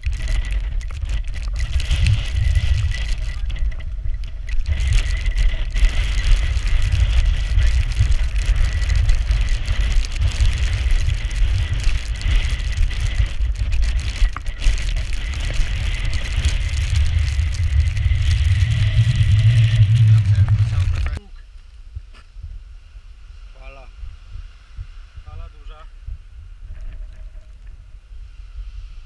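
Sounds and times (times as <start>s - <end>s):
wind buffeting microphone: 0.0s - 21.2s, 21.8s - 29.0s.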